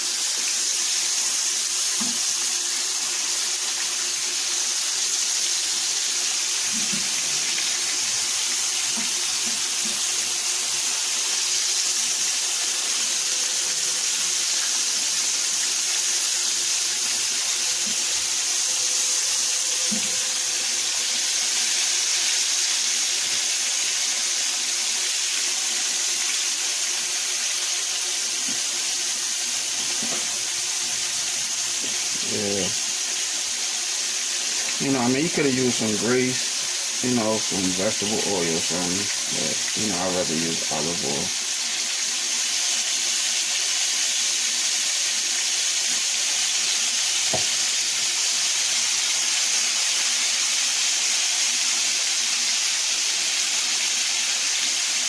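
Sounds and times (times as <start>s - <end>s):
liver sizzling in a frying pan: 0.0s - 55.0s.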